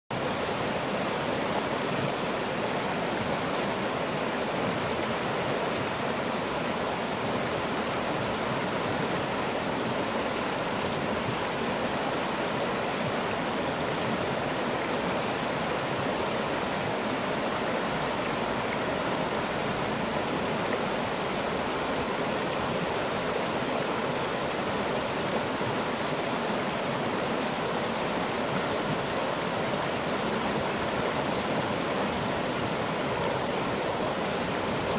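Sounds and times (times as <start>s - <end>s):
water running over rocky rapids: 0.1s - 34.9s.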